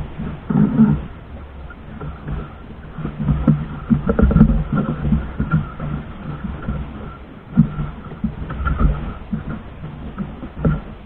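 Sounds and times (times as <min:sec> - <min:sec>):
water knocking against hull: 0:00.0 - 0:11.0
wind buffeting microphone: 0:00.0 - 0:11.0.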